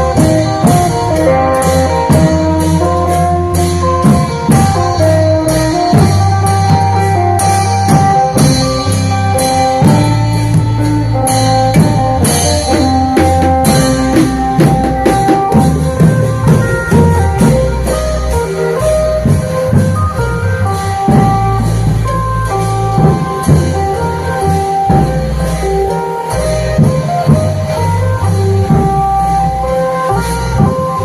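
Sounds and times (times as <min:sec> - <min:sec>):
bass notes: 0:00.0 - 0:31.0
drum and percussion strokes: 0:00.0 - 0:31.0
plucked string melody: 0:00.0 - 0:31.0.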